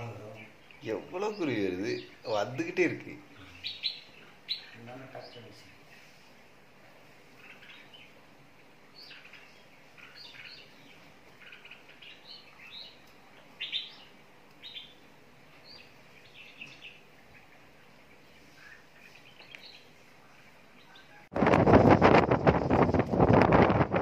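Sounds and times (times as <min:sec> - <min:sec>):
small birds chirping: 0:00.0 - 0:21.3.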